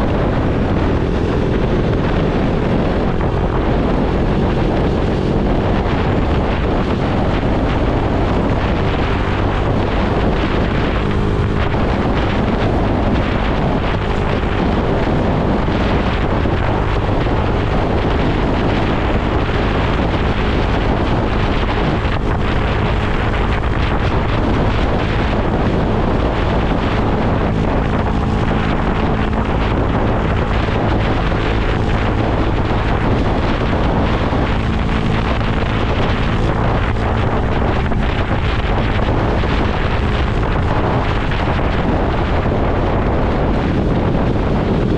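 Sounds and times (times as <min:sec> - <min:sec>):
motorcycle engine cruising: 0:00.0 - 0:44.9
wind rushing over microphone: 0:00.0 - 0:44.9.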